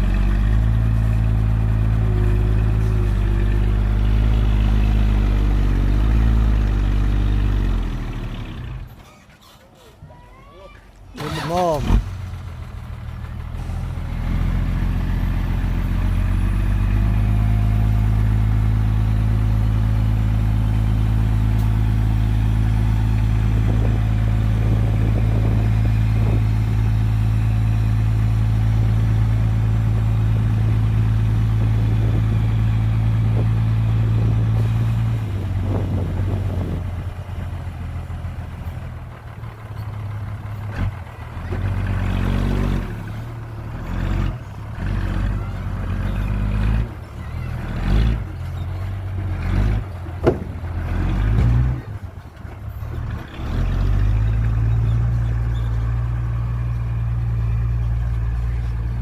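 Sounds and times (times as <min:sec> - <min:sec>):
heavy diesel engine working: 0:00.0 - 0:59.0.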